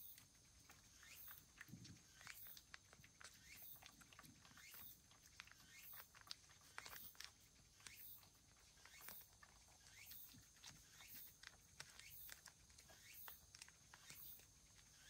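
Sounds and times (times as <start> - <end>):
cat licking food: 0.0 - 15.0.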